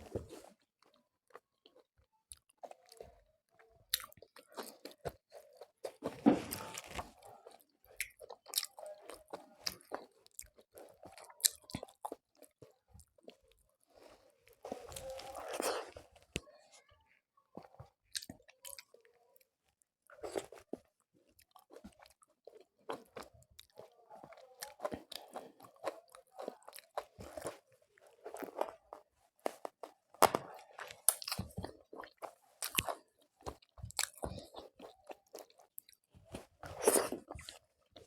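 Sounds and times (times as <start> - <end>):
person chewing crunchy food: 0.0 - 3.1, 3.9 - 16.3, 17.6 - 19.1, 20.1 - 38.0.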